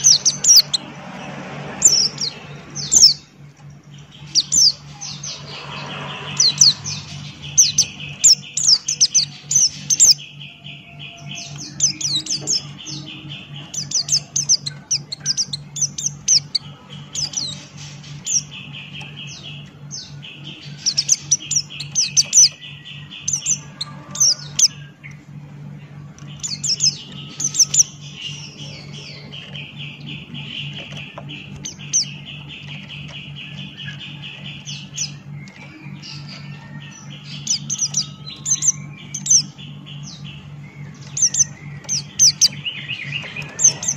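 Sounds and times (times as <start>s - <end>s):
bird high chirps: 0.0s - 43.9s
constant low hum: 0.0s - 43.9s
pulsed buzzing trill: 0.0s - 43.9s.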